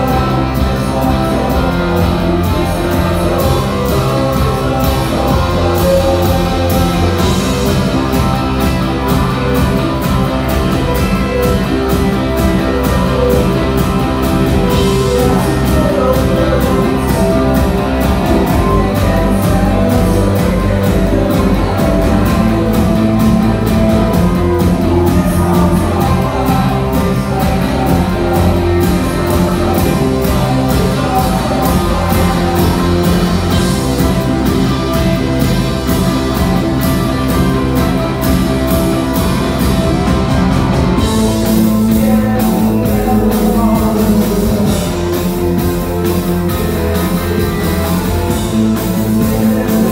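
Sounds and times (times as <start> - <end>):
indie rock band playing loudly: 0.0 - 49.9.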